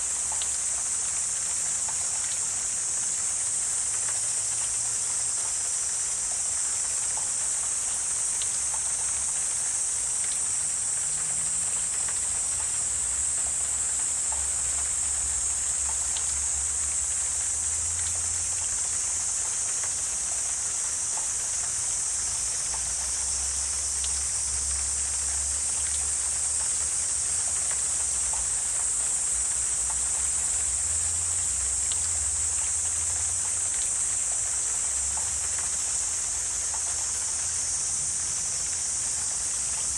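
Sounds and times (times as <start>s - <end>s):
insect chorus trilling drone: 0.0s - 39.9s
faint ticks: 0.2s - 2.4s, 3.4s - 9.6s, 10.2s - 39.9s.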